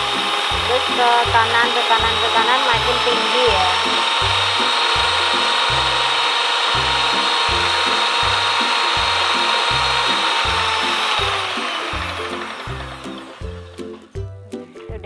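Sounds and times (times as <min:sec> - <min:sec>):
stand mixer motor whining: 0:00.0 - 0:14.2.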